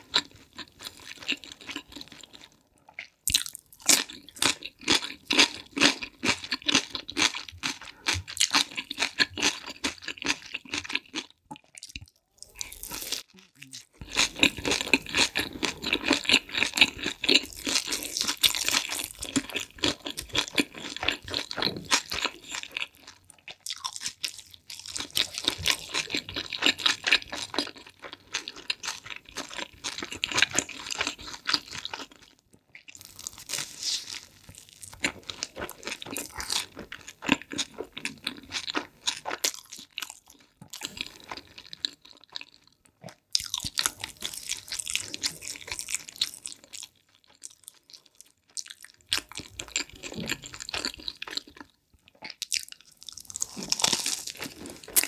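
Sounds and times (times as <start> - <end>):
chewing crunchy pizza crust: 0.0 - 55.0.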